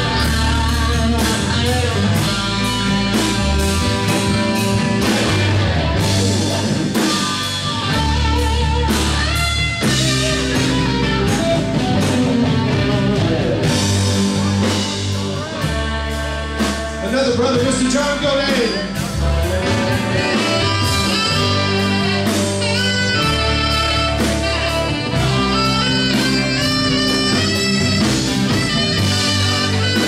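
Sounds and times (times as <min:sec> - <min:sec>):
bass guitar: 0:00.0 - 0:30.0
drum kit steady beat: 0:00.0 - 0:30.0
electric guitars: 0:00.0 - 0:30.0.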